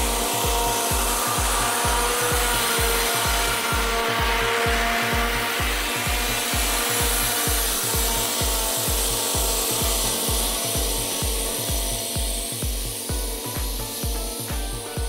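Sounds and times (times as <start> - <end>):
background music bass beat: 0.0 - 15.0
lawn mower cutting grass: 0.0 - 15.0.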